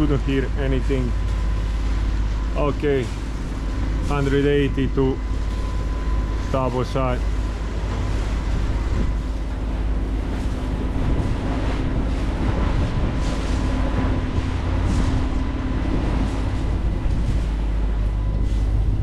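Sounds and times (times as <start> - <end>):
diesel engine rumble: 0.0 - 19.0
wind and water hiss: 0.0 - 19.0.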